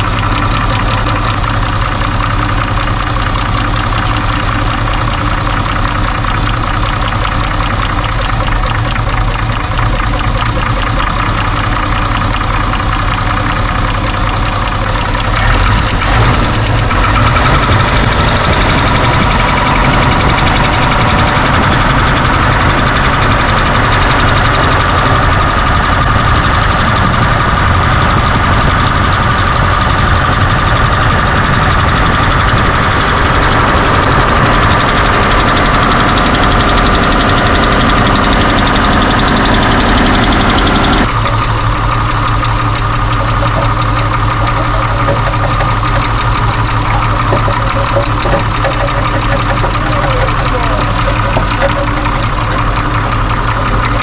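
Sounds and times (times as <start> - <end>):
engine idling with valve ticking: 0.0 - 54.0.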